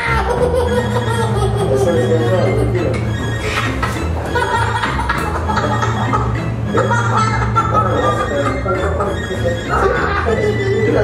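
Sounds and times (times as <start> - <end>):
wavering melody: 0.0 - 11.0.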